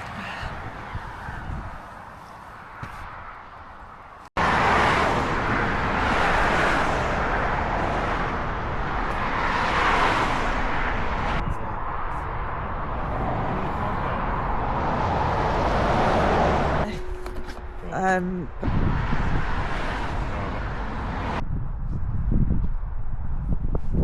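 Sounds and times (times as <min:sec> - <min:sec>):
motorcycle road noise: 0:00.0 - 0:23.5
wind rush: 0:00.0 - 0:24.0.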